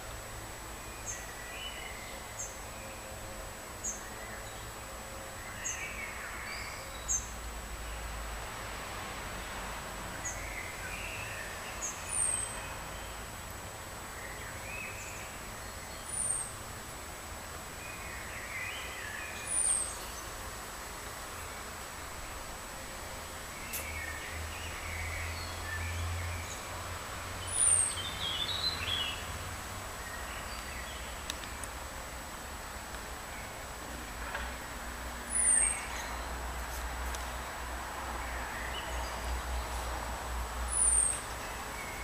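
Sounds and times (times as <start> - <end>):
outdoor hiss: 0.0 - 42.0.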